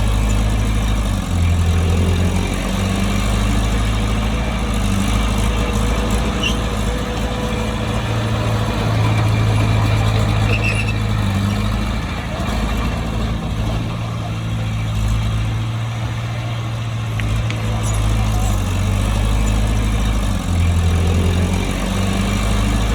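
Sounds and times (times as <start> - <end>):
heavy diesel engine running: 0.0 - 22.9.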